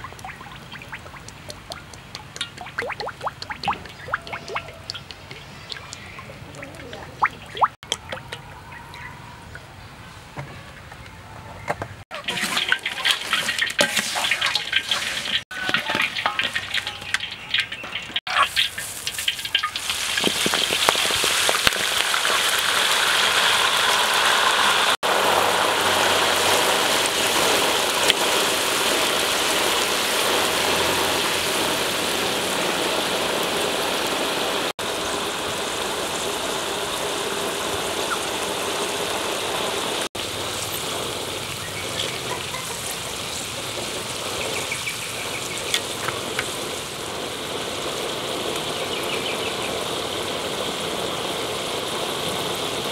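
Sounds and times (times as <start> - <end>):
deep-frying sizzle: 0.0 - 9.1, 12.1 - 52.9.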